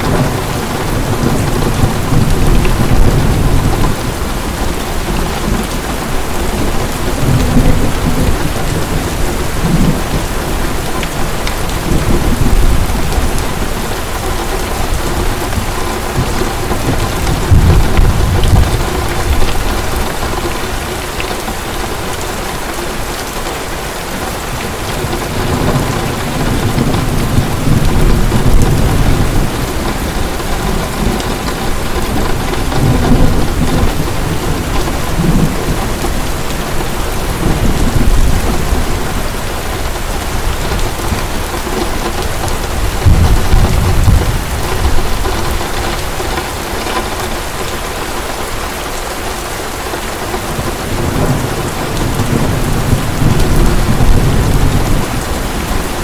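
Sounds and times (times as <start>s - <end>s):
thunder rumbling: 0.0s - 23.2s, 24.3s - 48.4s, 50.3s - 56.0s
heavy rain falling: 0.0s - 56.0s.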